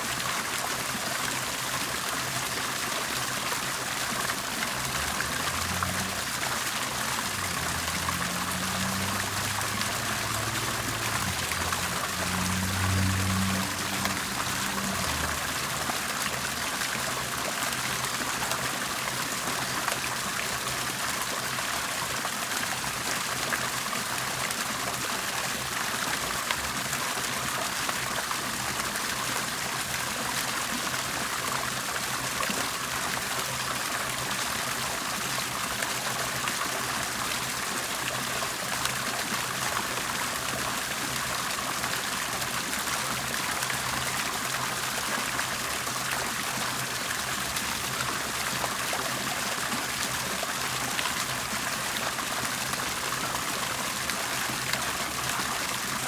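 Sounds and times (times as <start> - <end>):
water bubbling and trickling: 0.0 - 56.0.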